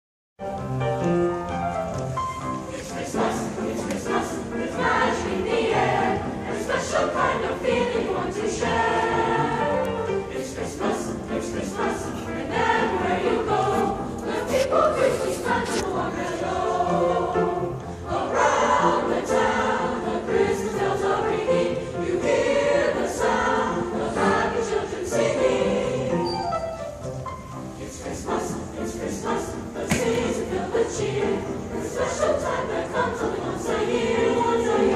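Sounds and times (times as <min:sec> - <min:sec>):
choir singing: 0:02.4 - 0:34.9.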